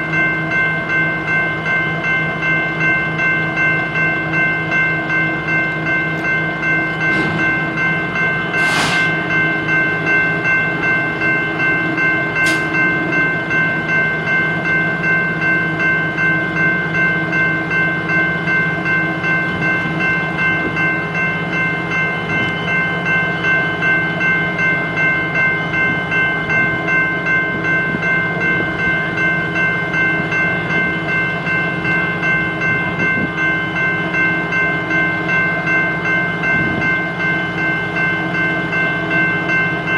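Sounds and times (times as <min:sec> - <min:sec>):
train running: 0:00.0 - 0:39.9.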